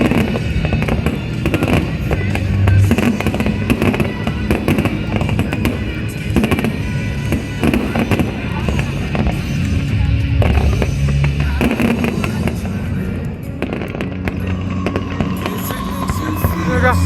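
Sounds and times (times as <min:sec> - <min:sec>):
fireworks cracking and banging: 0:00.0 - 0:17.0
loud music: 0:00.0 - 0:17.0.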